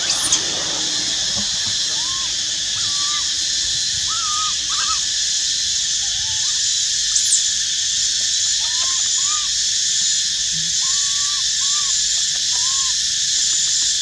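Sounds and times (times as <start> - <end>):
baby monkey coo calls: 0.0 - 14.0
high-pitched hiss: 0.0 - 14.0.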